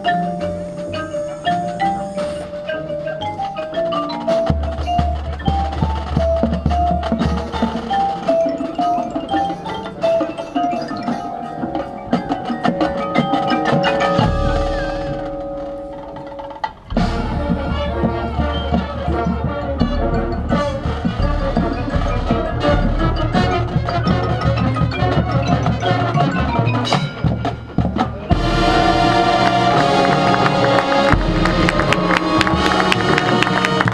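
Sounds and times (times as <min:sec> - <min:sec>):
marching band playing: 0:00.0 - 0:33.9
marimba and xylophone run: 0:00.0 - 0:33.9.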